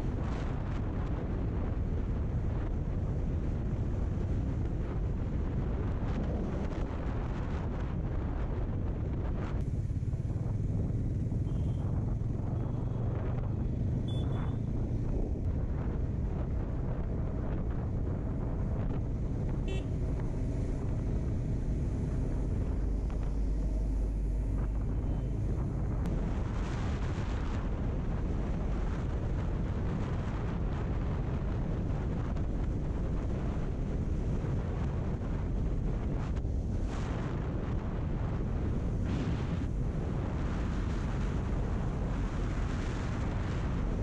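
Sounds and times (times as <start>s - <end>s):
motorcycle engine and road drone: 0.0s - 44.0s
wind rushing over microphone: 0.0s - 44.0s.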